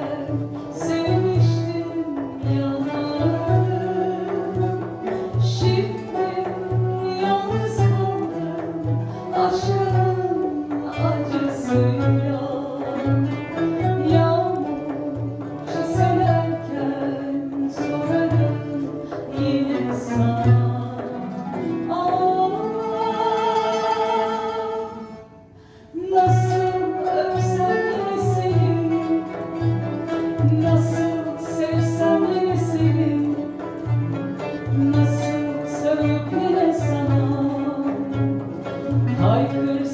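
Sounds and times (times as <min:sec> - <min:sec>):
woman singing a ballad: 0:00.0 - 0:25.3, 0:25.9 - 0:33.5, 0:34.5 - 0:38.4, 0:39.1 - 0:39.9
instrumental backing with bass: 0:00.0 - 0:39.9.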